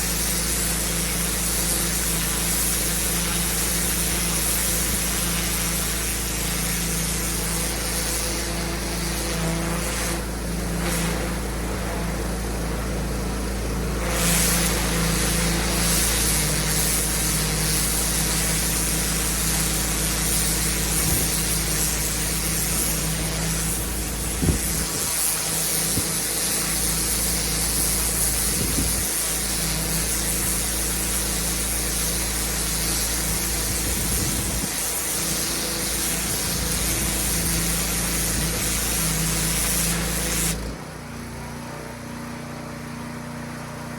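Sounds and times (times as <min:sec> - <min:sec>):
high-pressure water spray hissing: 0:00.0 - 0:40.9
pressure washer engine humming: 0:00.0 - 0:43.9.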